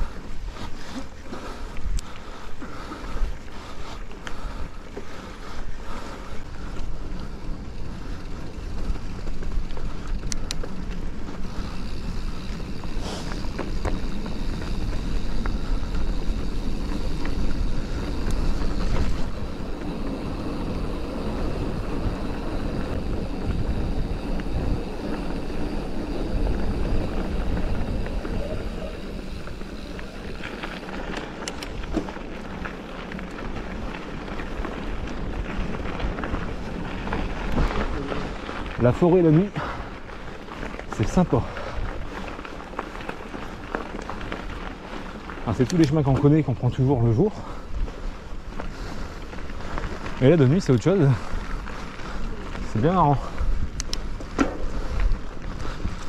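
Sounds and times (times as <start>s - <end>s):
bike clicks and rattles: 0.0s - 56.0s
bike tyres rumbling on dirt: 0.0s - 56.0s.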